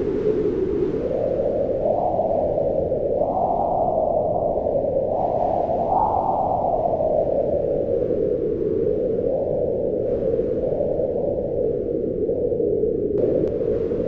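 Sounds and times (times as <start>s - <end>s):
strong wind howling: 0.0s - 14.0s.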